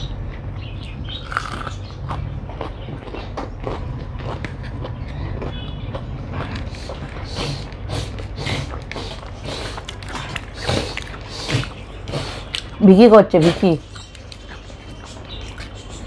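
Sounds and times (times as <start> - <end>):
low steady hum: 0.0 - 16.0
chewing and mouth smacks: 1.2 - 12.8, 13.8 - 16.0.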